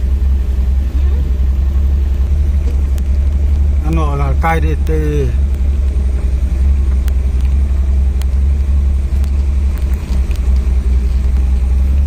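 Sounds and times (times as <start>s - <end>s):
boat motor rumbling: 0.0s - 12.0s.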